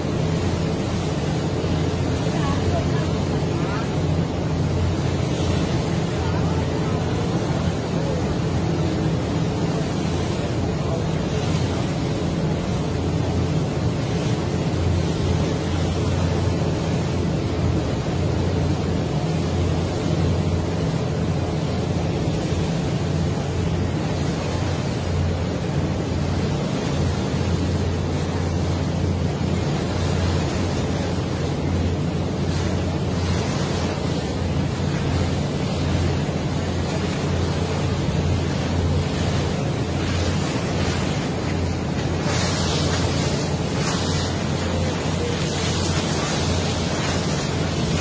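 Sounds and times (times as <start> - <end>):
boat engine drone: 0.0 - 48.0
water rushing along hull: 0.0 - 48.0.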